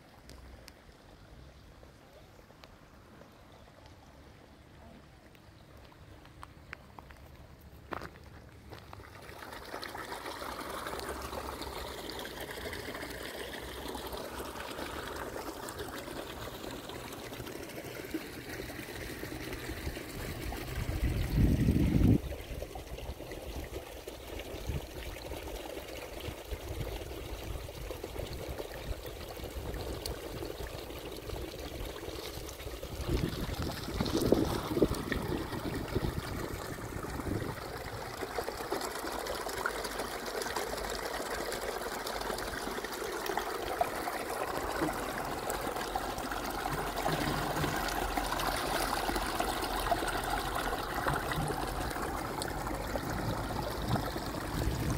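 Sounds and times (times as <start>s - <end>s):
water trickling and pouring: 7.2s - 54.9s.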